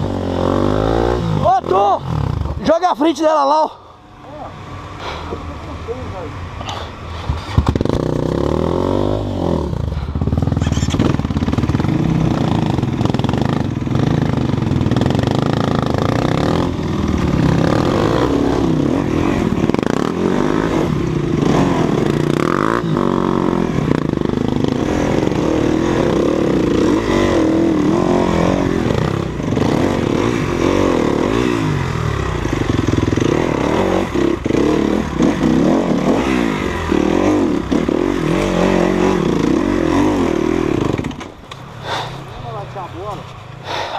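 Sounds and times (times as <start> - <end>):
dirt bike engine revving: 0.0 - 3.4, 4.5 - 43.9.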